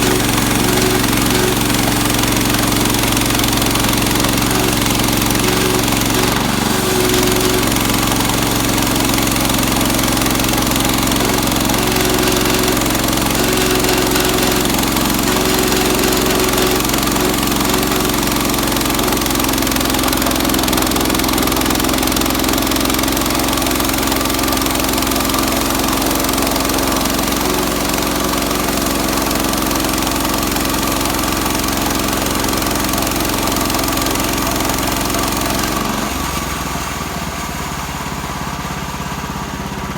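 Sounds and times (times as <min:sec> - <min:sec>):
sawmill cutting log: 0:00.0 - 0:39.9
sawmill engine running: 0:00.0 - 0:39.9.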